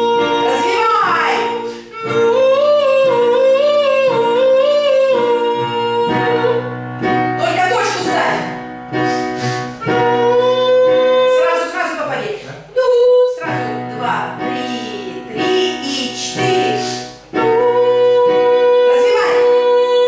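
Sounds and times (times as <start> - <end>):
person singing high notes: 0.0 - 6.8, 7.5 - 11.8, 12.8 - 20.0
instrumental accompaniment: 0.0 - 20.0.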